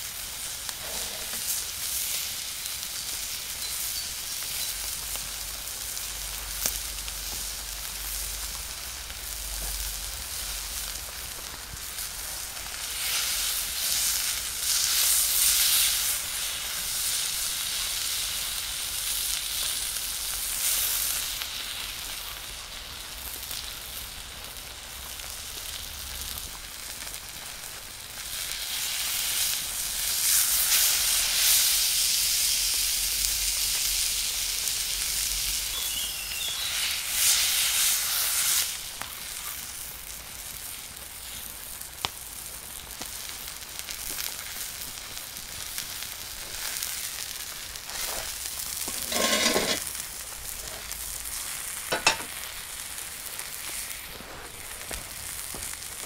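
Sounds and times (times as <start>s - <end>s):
steak sizzling in a skillet: 0.0s - 56.0s.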